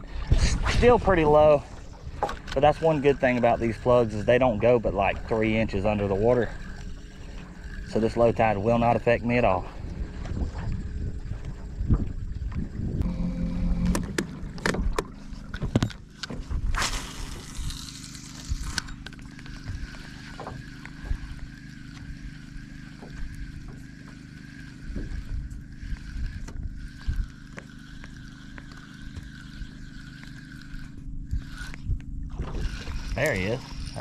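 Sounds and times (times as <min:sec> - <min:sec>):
faint steady whine: 0:00.0 - 0:34.0
low hum: 0:00.0 - 0:34.0
water around a boat: 0:00.0 - 0:34.0
wind: 0:00.0 - 0:34.0.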